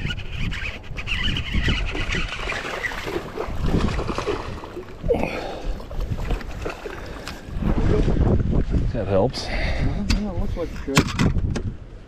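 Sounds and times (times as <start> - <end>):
waves sloshing against boat hull: 0.0 - 11.6
wind buffeting microphone: 0.0 - 12.0.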